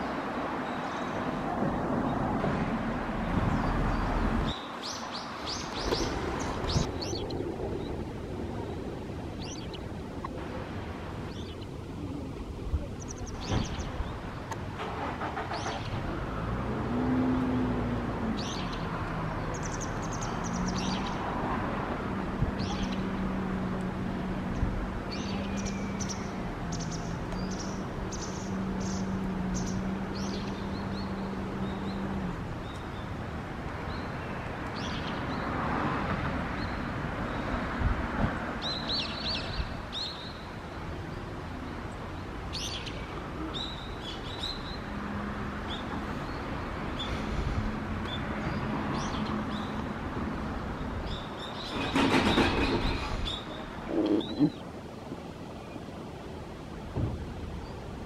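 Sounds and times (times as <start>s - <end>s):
birds chirping: 3.2s - 21.4s, 22.5s - 35.8s, 38.5s - 49.9s, 50.5s - 56.0s.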